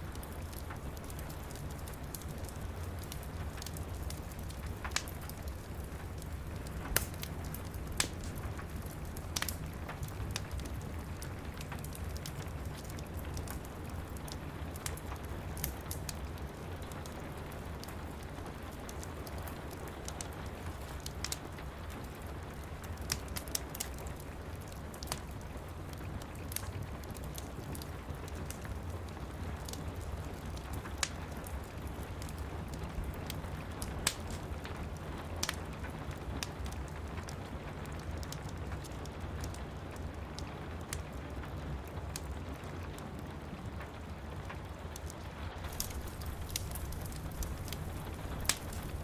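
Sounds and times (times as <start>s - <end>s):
steady rain: 0.0s - 49.0s
wood fire crackling: 0.0s - 49.0s.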